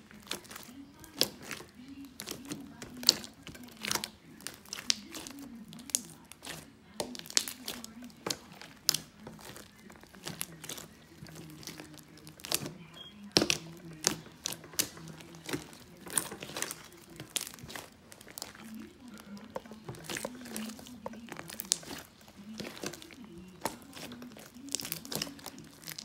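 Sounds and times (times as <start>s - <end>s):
slime crackling and popping: 0.0s - 26.0s.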